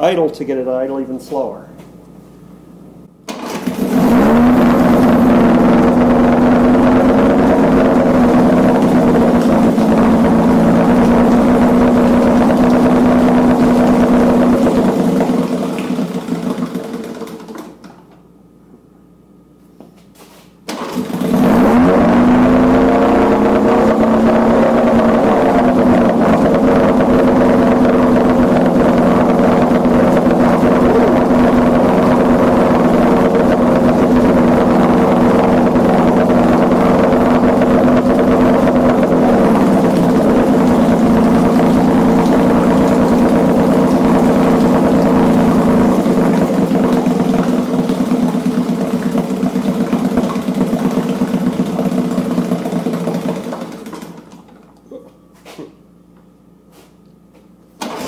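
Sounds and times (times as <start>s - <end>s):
outboard motor starting and idling: 3.2s - 18.3s, 20.6s - 55.6s, 57.7s - 58.0s.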